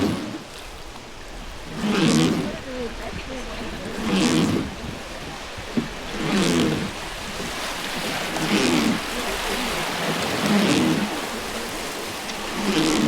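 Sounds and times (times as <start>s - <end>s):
river water rushing: 0.0s - 13.0s
water splashing: 0.0s - 13.0s.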